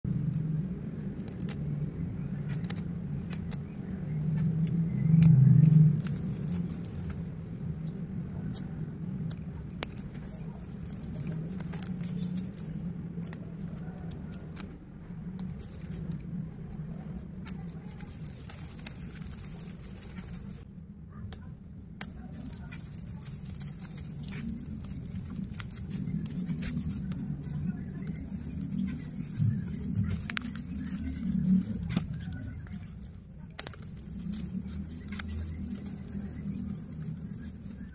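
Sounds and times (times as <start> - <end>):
low hum: 0.0 - 37.9.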